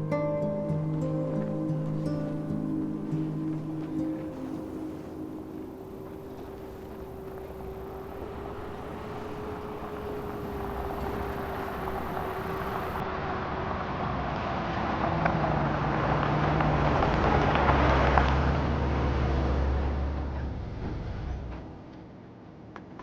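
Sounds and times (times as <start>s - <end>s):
vehicle engine rumbling: 0.0s - 21.8s.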